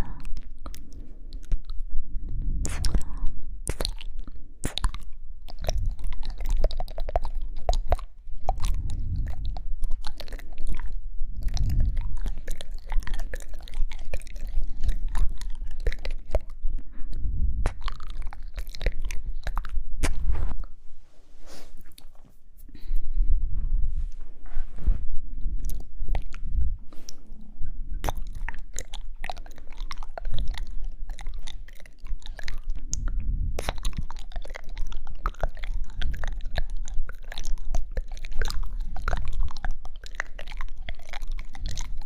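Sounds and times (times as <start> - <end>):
wet mouth clicks and smacks: 0.0 - 20.7, 25.6 - 27.3, 28.0 - 42.0
soft low rumbles: 0.0 - 42.0.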